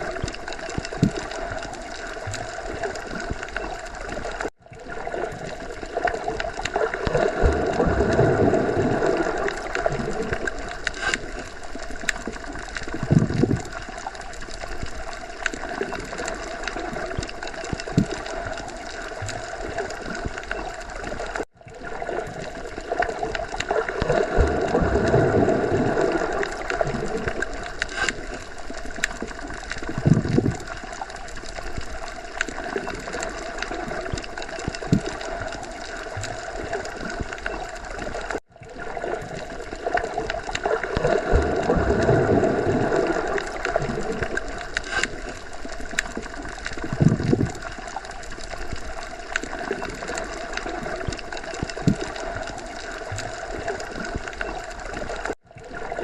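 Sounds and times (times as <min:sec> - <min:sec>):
underwater watery wash: 0:00.0 - 0:56.0.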